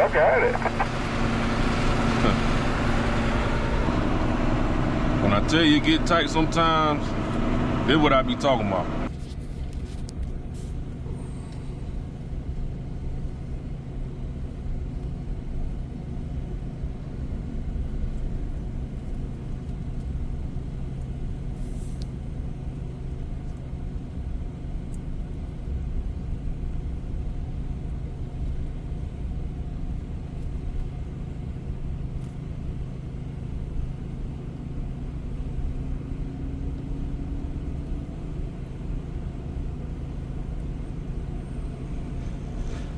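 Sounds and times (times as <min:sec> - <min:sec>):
diesel truck engine running: 0:00.0 - 0:42.9
road rumble: 0:00.0 - 0:42.9.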